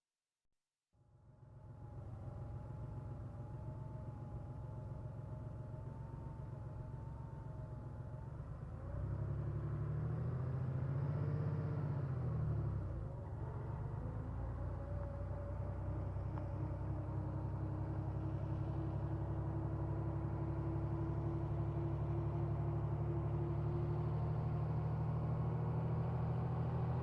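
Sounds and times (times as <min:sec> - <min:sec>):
car engine running with whine: 0:01.1 - 0:27.0.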